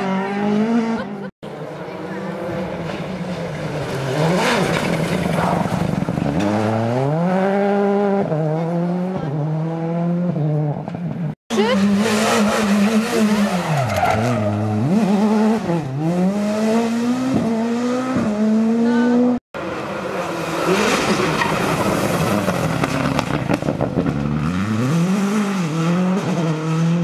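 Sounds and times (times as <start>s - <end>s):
rally car engine accelerating: 0.0s - 27.0s
second rally car engine: 0.0s - 27.0s.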